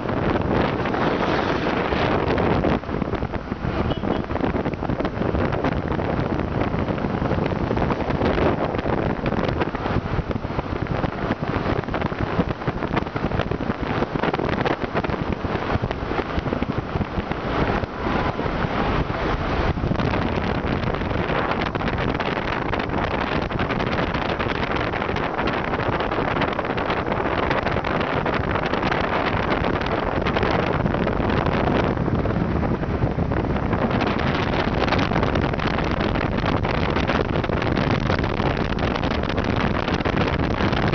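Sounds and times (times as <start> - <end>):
road and engine noise: 0.0 - 40.9
wind buffeting microphone: 0.0 - 40.9.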